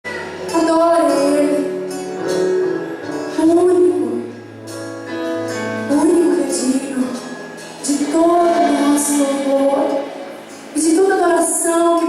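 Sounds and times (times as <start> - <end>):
worship band music: 0.1 - 12.0.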